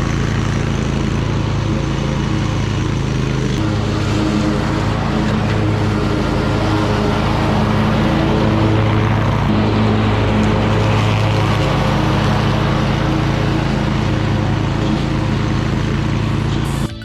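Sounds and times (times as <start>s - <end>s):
lawn mower running: 0.0s - 17.0s.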